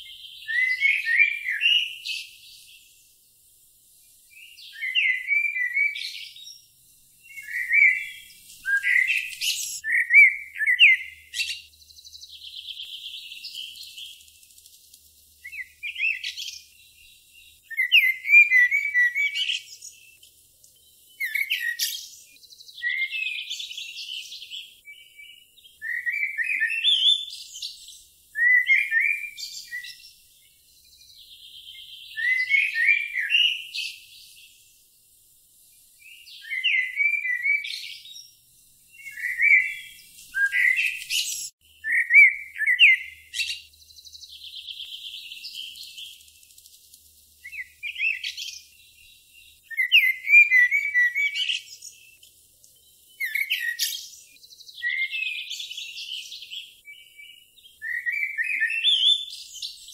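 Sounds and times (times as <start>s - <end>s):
songbird singing gliding notes: 0.0s - 59.9s.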